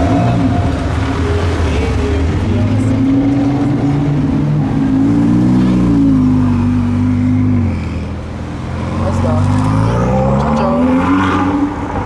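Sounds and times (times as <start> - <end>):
sports car engine running: 0.0 - 12.0.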